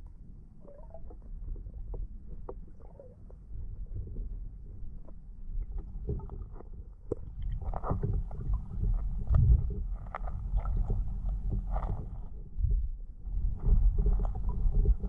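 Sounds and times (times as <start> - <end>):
muffled underwater water movement: 0.0 - 15.0.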